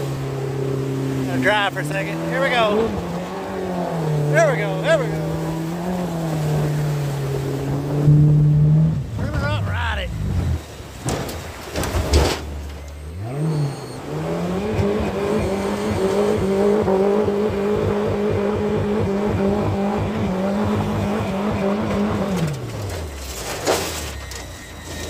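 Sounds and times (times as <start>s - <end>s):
outboard motor revving: 0.0s - 11.6s, 12.5s - 23.3s
rushing water: 0.0s - 23.2s.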